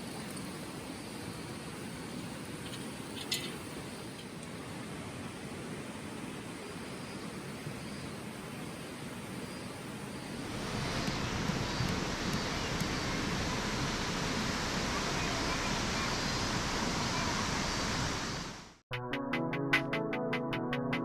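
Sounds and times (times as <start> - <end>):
mountain stream rushing: 0.0 - 18.8.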